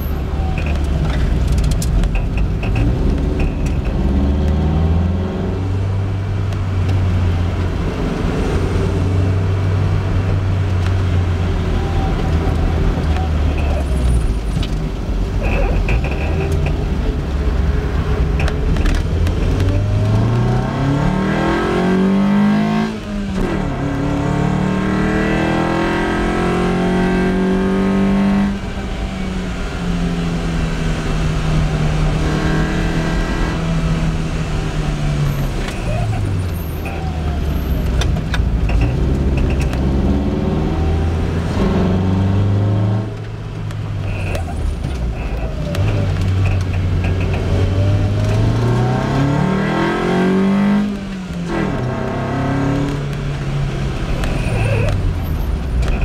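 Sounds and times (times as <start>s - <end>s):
car engine accelerating: 0.0s - 56.0s
road and wind rush: 0.0s - 56.0s.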